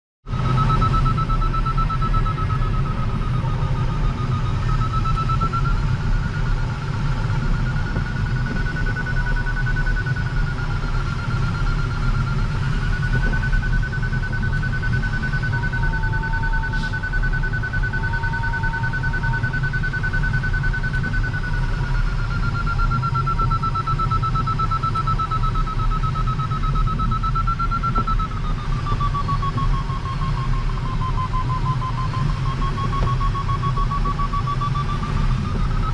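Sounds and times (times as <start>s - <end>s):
rush of air around cockpit: 0.2s - 35.9s
variometer beeping rapidly: 0.3s - 35.9s.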